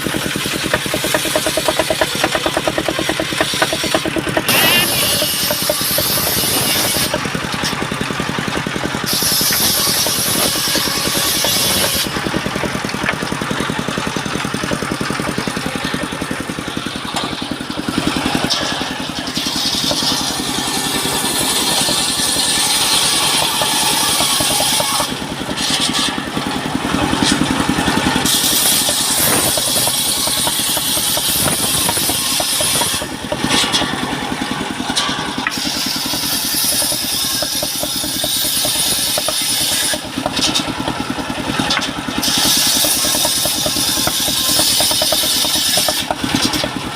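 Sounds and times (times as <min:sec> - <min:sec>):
saw blade cutting timber: 0:00.0 - 0:46.9
sawmill engine running: 0:00.0 - 0:46.9.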